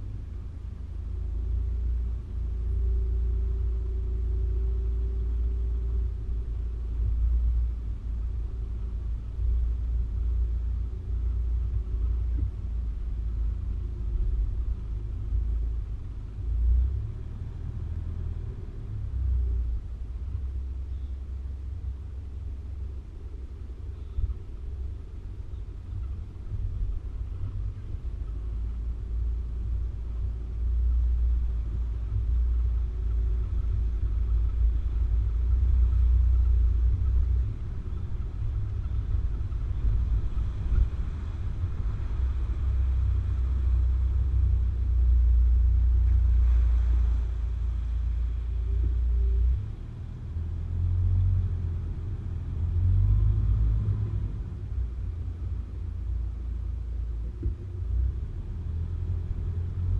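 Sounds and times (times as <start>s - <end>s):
vehicle driving off-road rumble: 0.0s - 59.9s.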